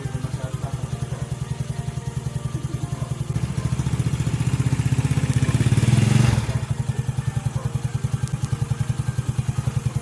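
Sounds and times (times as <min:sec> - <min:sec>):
scooter engine revving and idling: 0:00.0 - 0:10.0.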